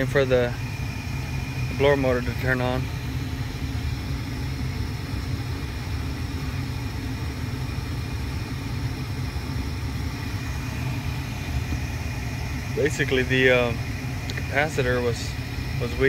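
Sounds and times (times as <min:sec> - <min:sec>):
gas furnace burner rumble: 0:00.0 - 0:16.0.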